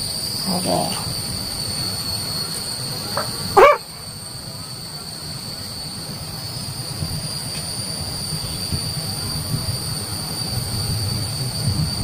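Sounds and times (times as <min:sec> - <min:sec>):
high-pitched drone: 0:00.0 - 0:12.0.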